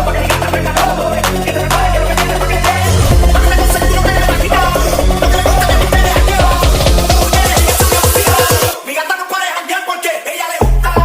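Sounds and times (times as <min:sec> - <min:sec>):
hip hop dance music with vocal: 0:00.0 - 0:11.0.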